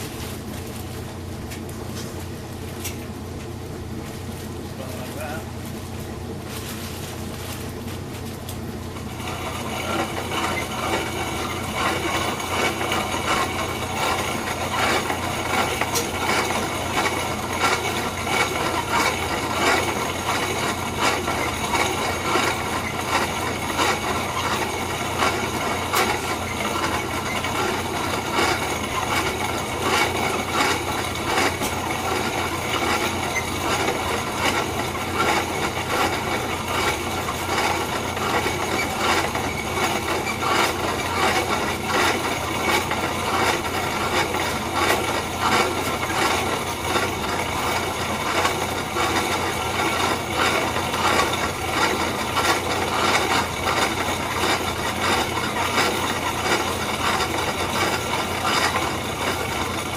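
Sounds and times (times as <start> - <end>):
grain mill crushing kernels: 0.0 - 59.9.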